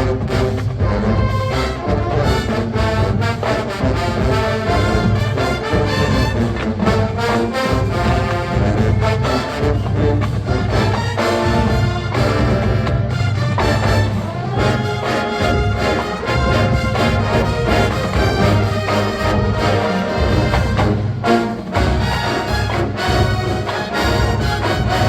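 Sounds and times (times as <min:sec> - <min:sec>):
marching band playing funk: 0:00.0 - 0:25.0.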